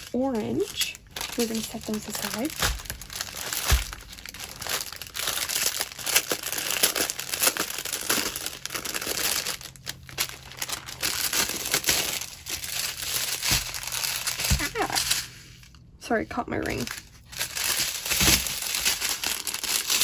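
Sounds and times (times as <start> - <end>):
plastic bags crinkling: 0.0 - 15.9, 16.6 - 20.0.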